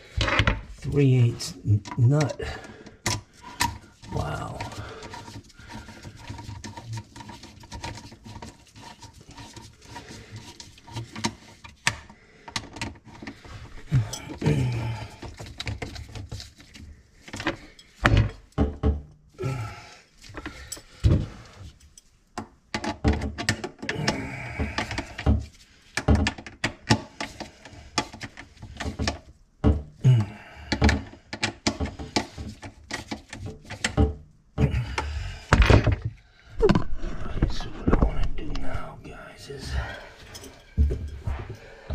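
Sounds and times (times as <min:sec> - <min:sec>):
tools clunking and scraping: 0:00.0 - 0:00.9, 0:01.8 - 0:19.2, 0:20.2 - 0:38.9, 0:39.7 - 0:41.9.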